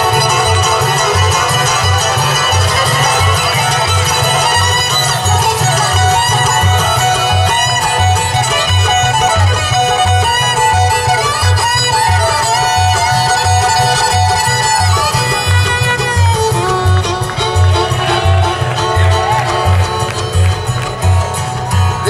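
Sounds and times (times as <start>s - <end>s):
bluegrass string band playing: 0.0s - 22.0s
fiddle bowed notes: 0.0s - 22.0s.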